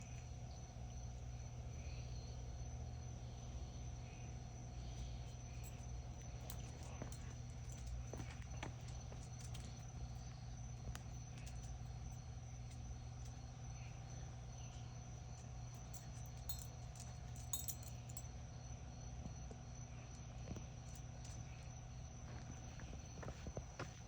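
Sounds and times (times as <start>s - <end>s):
insects trilling: 0.0s - 24.0s
steady low hum: 0.0s - 24.0s.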